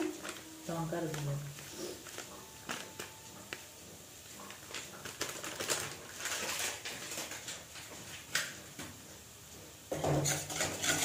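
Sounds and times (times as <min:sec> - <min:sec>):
paste sizzling in a frying pan: 0:00.0 - 0:11.0.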